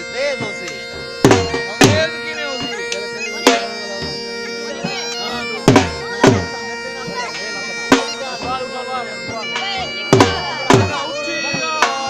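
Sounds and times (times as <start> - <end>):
heavy drum strokes: 0.0 - 12.0
reed instrument drone and melody: 0.0 - 12.0.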